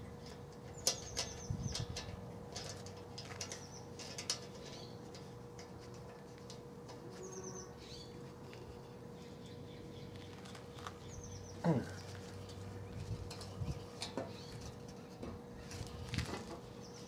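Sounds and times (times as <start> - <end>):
small birds chirping: 0.0 - 2.1, 3.4 - 5.2, 7.1 - 17.0.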